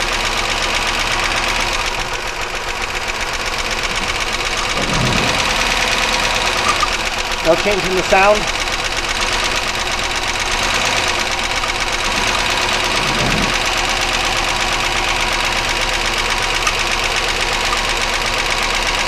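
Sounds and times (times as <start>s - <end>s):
car engine idling with ticking: 0.0s - 19.0s.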